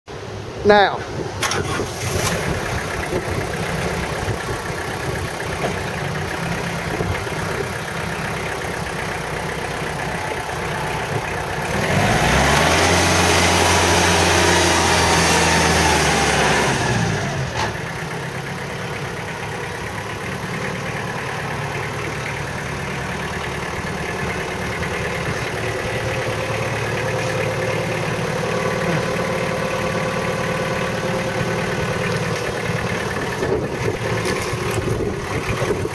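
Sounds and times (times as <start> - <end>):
tractor engine idling and revving: 0.1 - 35.9.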